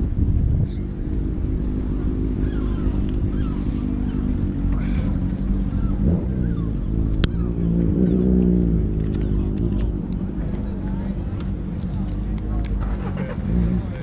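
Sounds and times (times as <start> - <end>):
motorcycle engine running: 0.0 - 14.0
faint voices: 0.6 - 14.0.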